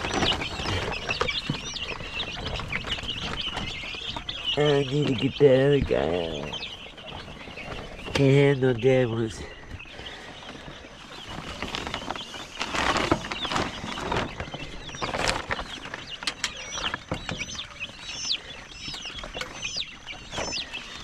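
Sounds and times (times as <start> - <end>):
rustling: 0.0 - 8.4, 9.4 - 21.0
chicks peeping: 0.0 - 21.0.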